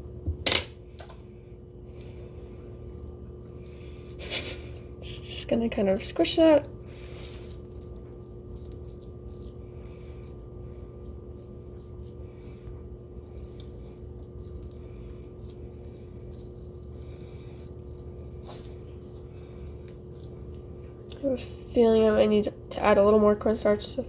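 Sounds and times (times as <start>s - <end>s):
steady hum: 0.0s - 24.0s
crackling squishing dough being kneaded: 0.9s - 24.0s.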